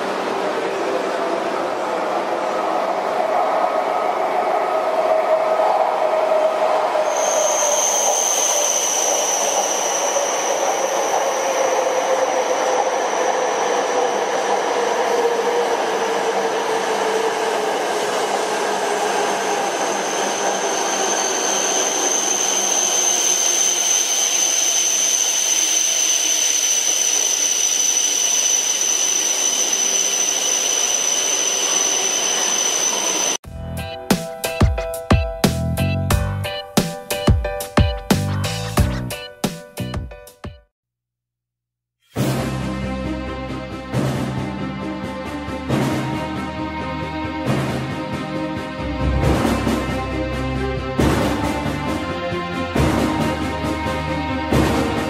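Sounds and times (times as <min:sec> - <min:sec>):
train rushing past: 0:00.0 - 0:34.6, 0:42.2 - 0:55.0
low train hum: 0:00.0 - 0:35.0, 0:42.4 - 0:55.0.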